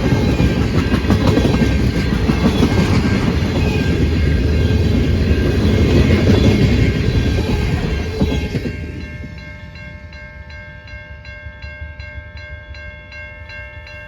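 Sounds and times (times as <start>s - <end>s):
railroad crossing bell ringing: 0.0s - 14.0s
train rumbling past: 0.0s - 14.0s.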